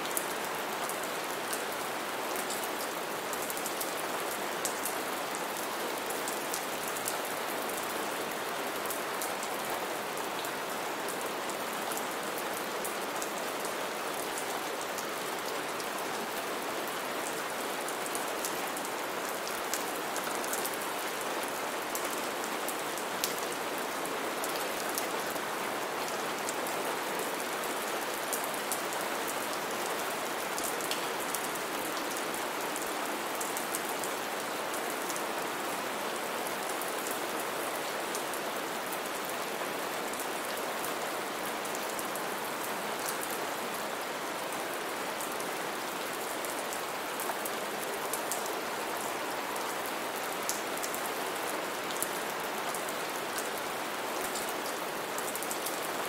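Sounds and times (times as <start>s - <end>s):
rain falling on a roof: 0.0s - 56.0s.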